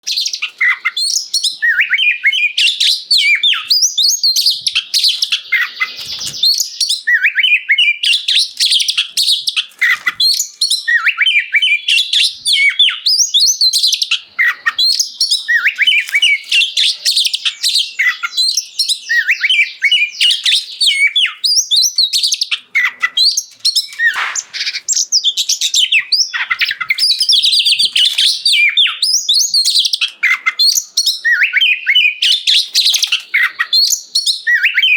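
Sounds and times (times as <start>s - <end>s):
bird singing whistles and trills: 0.0s - 34.9s.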